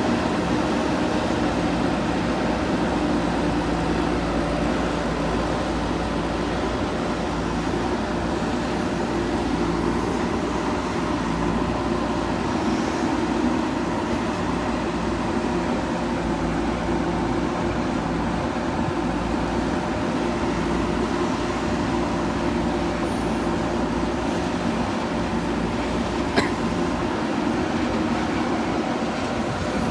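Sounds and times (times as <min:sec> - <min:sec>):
diesel engine running steadily: 0:00.0 - 0:29.9.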